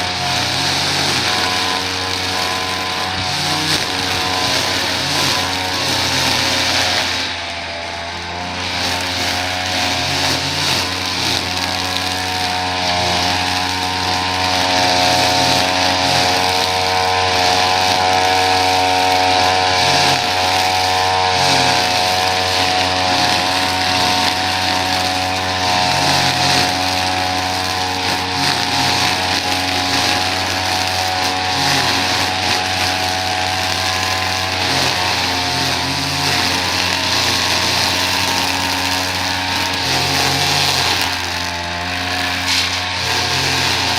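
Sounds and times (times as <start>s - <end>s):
small petrol engine running: 0.0s - 43.9s.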